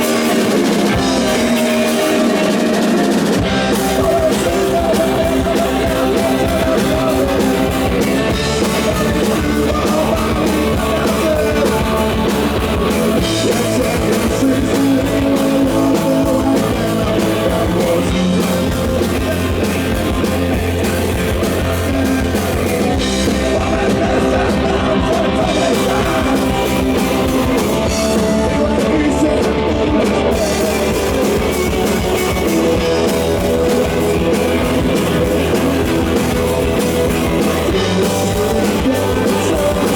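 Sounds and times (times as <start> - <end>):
bass guitar: 0.0 - 39.9
drum kit: 0.0 - 39.9
electric guitars: 0.0 - 39.9
person singing: 0.0 - 39.9.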